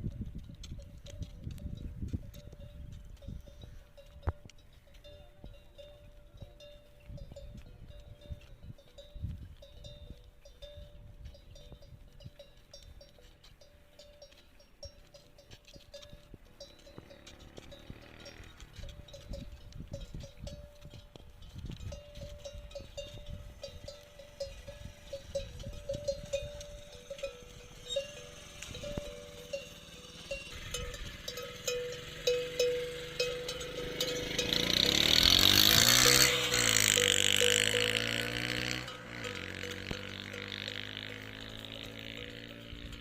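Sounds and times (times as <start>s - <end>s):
bell clanking: 0.0s - 43.0s.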